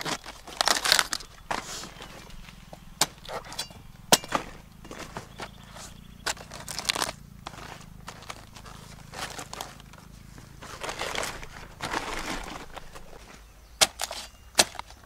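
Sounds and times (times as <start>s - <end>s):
cabbage leaves rustling and crunching: 0.0s - 15.0s.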